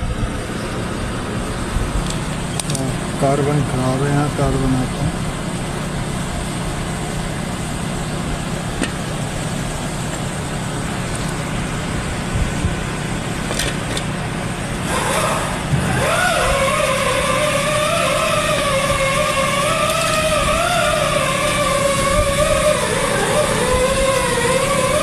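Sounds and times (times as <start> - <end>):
high pitched whine: 0.0 - 25.0.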